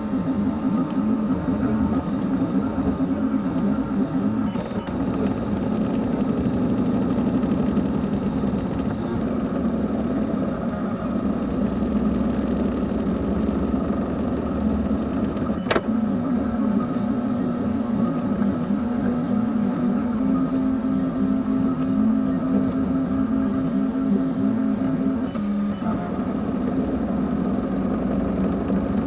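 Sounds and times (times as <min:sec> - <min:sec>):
vacuum cleaner motor running: 0:00.0 - 0:29.0.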